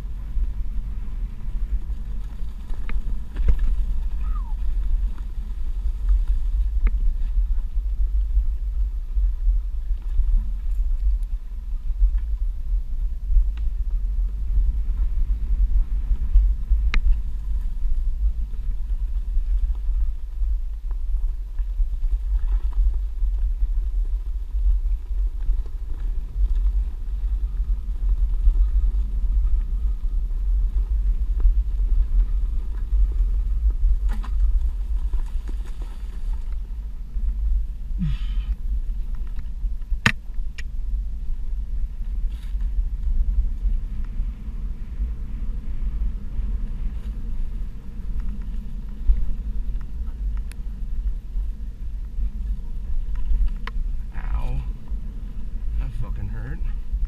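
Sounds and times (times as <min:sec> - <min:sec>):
board rolling over gravel: 0:00.0 - 0:55.9
wind buffeting microphone: 0:00.0 - 0:57.0.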